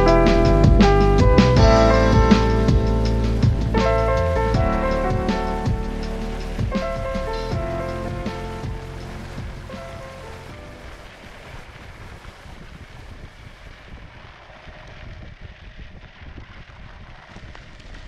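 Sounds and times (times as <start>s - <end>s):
skateboard wheels rumbling on gravel: 0.0s - 18.0s
wind buffeting microphone: 0.0s - 18.0s.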